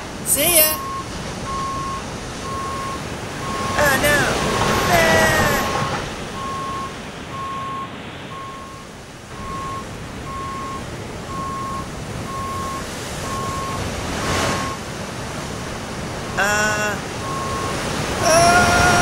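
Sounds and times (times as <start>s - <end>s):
surf: 0.0s - 19.0s
electronic warning beeps: 0.3s - 14.8s, 16.4s - 17.8s
wave breaking: 0.8s - 19.0s.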